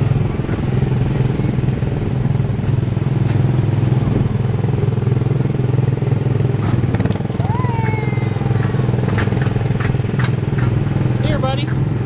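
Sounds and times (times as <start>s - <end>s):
small gasoline engine puttering: 0.0s - 12.0s.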